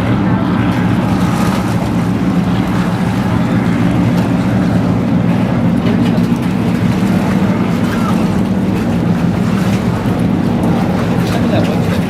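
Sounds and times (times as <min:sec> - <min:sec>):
powerboat engines droning: 0:00.0 - 0:12.0.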